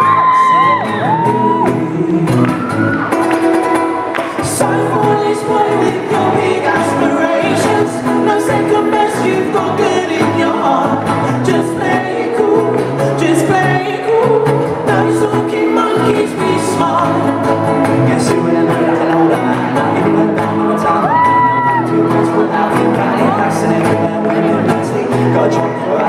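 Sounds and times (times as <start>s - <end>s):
live pop song with vocals: 0.0s - 26.0s.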